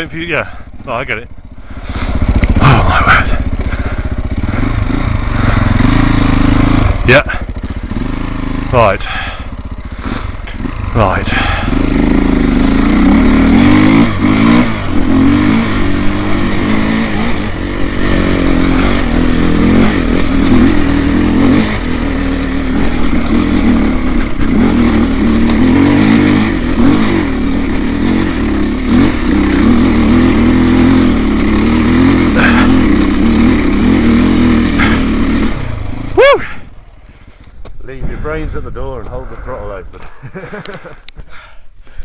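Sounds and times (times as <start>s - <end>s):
dirt bike engine revving: 0.0s - 37.5s.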